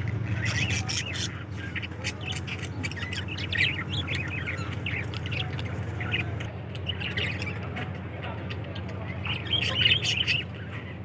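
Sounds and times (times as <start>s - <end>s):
steady low hum: 0.0s - 11.0s
budgerigars chirping: 0.2s - 10.7s.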